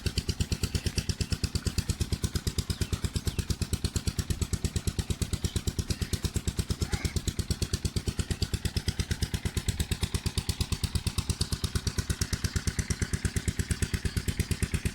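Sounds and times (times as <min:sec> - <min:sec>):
diesel pump engine running: 0:00.0 - 0:14.9.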